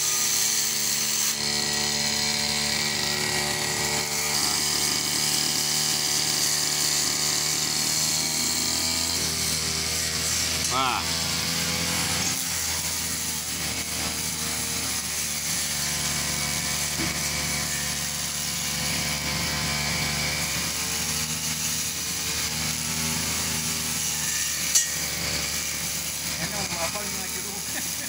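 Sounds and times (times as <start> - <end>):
brush cutter engine running: 0.0 - 28.0.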